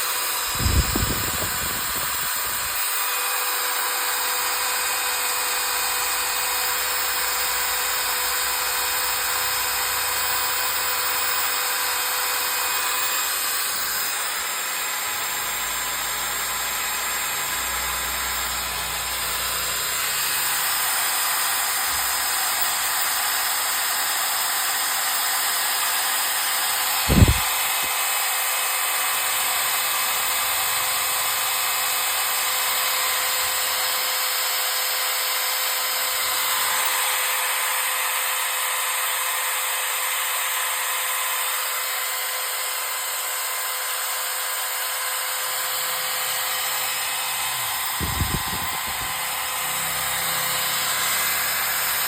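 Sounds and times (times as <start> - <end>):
hammer drill whining: 0.0 - 52.0.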